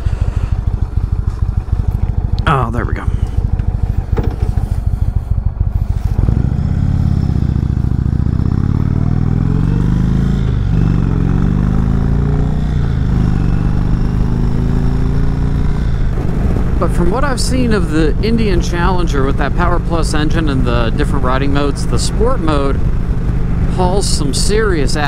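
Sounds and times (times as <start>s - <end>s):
motorcycle engine idling and accelerating: 0.0s - 25.0s.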